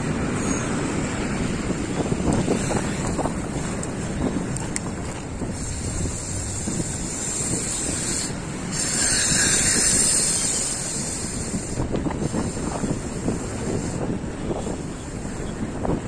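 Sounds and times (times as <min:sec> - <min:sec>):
bicycle road rumble: 0:00.0 - 0:16.0
wind buffeting microphone: 0:00.0 - 0:16.0.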